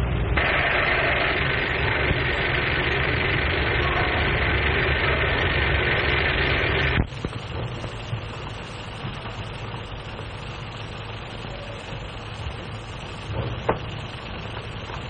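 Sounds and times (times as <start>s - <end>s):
steam train rumbling: 0.0s - 15.0s.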